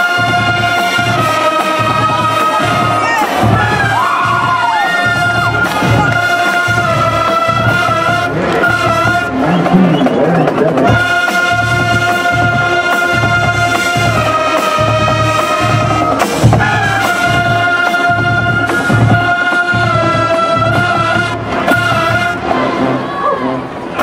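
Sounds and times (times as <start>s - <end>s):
brass and woodwind chords: 0.0s - 24.0s
bass drum beat: 0.2s - 22.5s.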